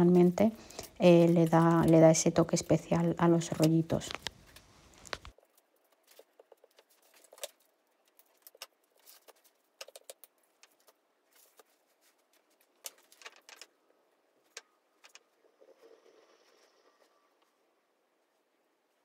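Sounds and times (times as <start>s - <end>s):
hands working at bamboo mat: 0.0s - 19.0s.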